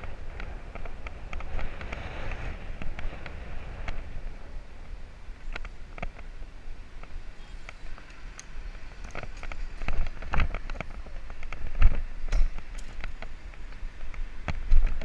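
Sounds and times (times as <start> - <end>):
bicycle rattling and knocking: 0.0 - 4.0, 7.0 - 15.0
wind rumble on microphone: 0.0 - 15.0.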